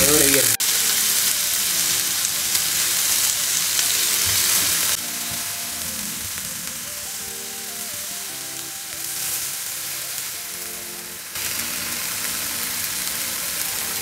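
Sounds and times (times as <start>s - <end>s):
chicken sizzling in a frying pan: 0.0s - 14.0s.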